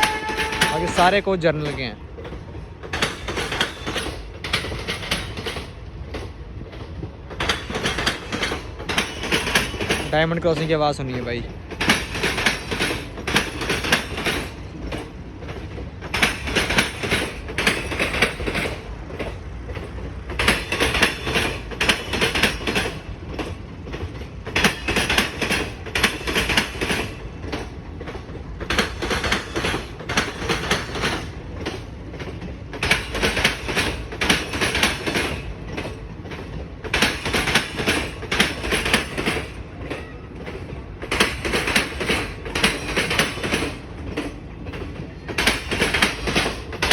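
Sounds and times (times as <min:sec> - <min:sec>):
train rumble: 0:00.0 - 0:46.9
train wheels clattering over crossing: 0:00.0 - 0:46.9.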